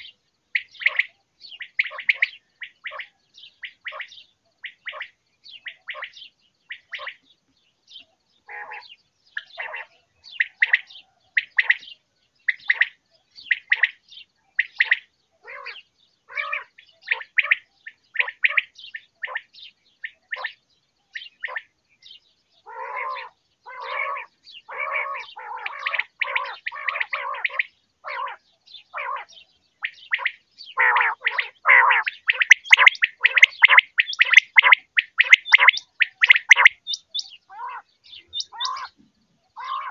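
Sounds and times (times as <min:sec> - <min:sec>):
quail chirping calls: 0:00.0 - 0:39.9.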